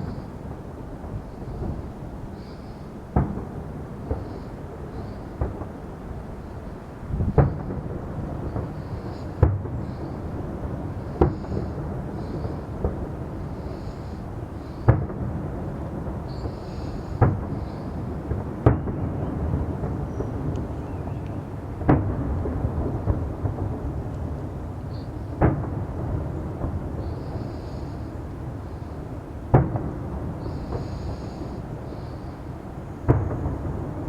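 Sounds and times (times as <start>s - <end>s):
fireworks booming: 0.0s - 34.0s.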